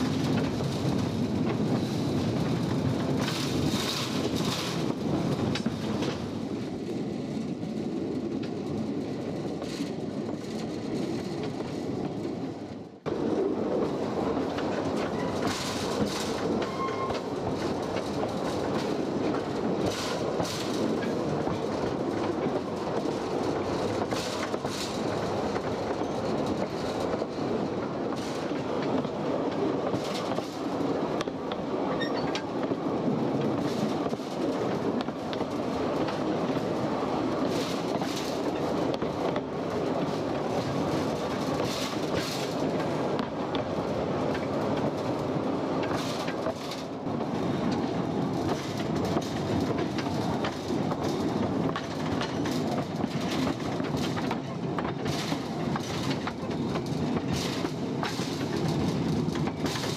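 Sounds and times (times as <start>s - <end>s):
train rumbling on track: 0.0s - 59.9s
wheels clicking over rail joints: 0.0s - 59.9s.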